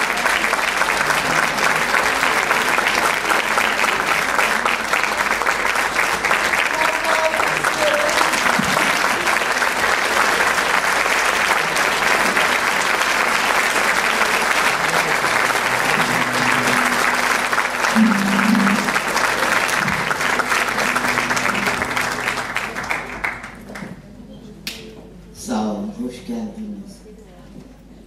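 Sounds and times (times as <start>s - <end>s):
audience applauding: 0.0s - 24.1s.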